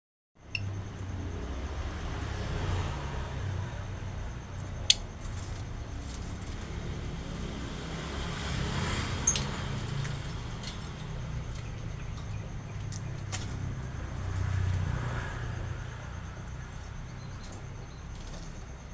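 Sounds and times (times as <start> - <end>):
low vehicle engine rumble: 0.4 - 18.9.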